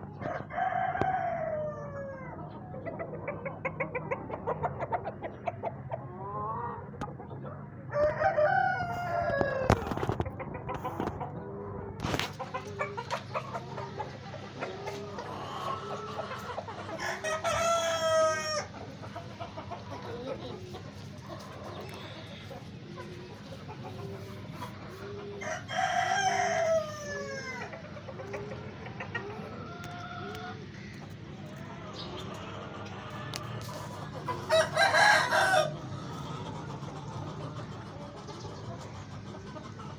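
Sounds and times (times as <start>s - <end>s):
roosters crowing: 0.0s - 2.7s, 7.8s - 38.3s
hens clucking: 0.0s - 39.9s.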